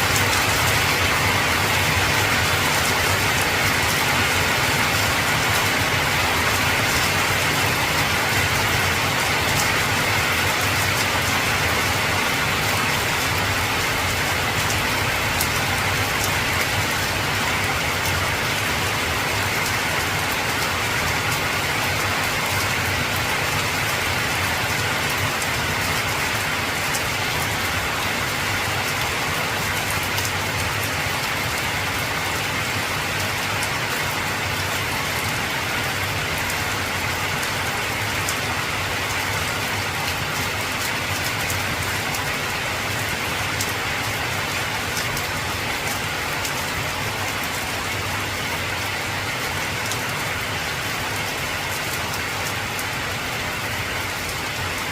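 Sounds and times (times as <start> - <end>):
heavy rain on a tin roof: 0.0 - 54.9.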